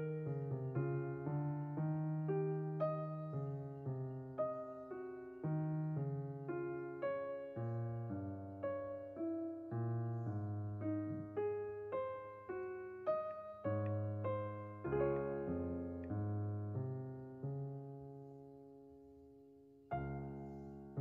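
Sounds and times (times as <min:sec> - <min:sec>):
calm piano music: 0:00.0 - 0:21.0.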